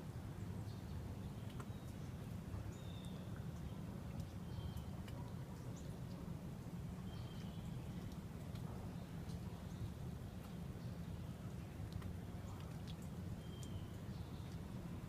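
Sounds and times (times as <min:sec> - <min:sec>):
small birds chirping: 0:00.5 - 0:06.2, 0:07.0 - 0:15.0.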